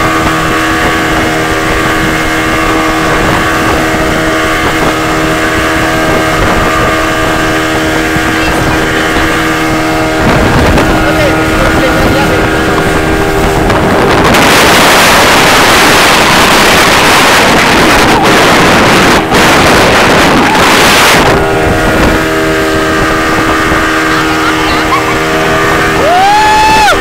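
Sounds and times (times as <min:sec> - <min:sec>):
motorboat engine running: 0:00.0 - 0:27.0
wind and spray on microphone: 0:00.0 - 0:27.0.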